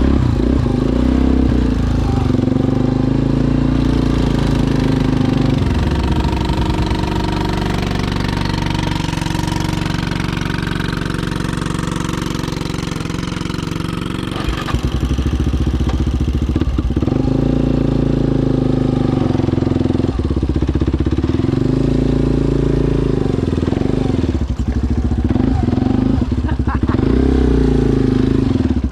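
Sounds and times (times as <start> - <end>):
atv engine revving: 0.0 - 28.9.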